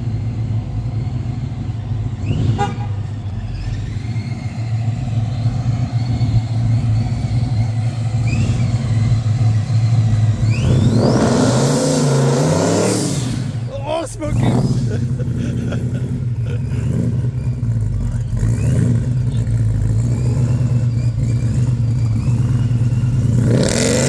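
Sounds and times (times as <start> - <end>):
car engine idling: 0.0 - 24.0
supercharger whine: 0.0 - 24.0.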